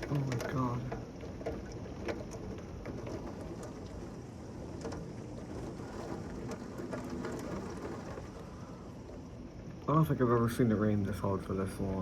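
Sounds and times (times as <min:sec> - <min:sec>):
heavy rain pouring: 0:00.0 - 0:12.0
raindrops ticking: 0:00.0 - 0:12.0.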